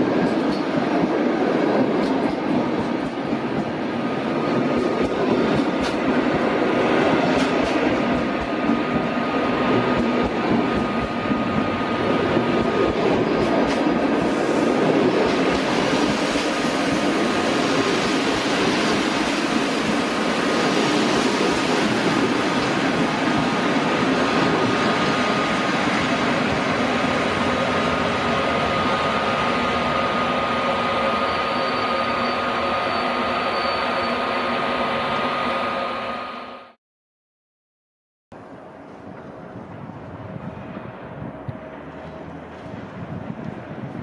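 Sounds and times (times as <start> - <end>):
train rolling noise: 0.0 - 36.6, 38.4 - 44.0.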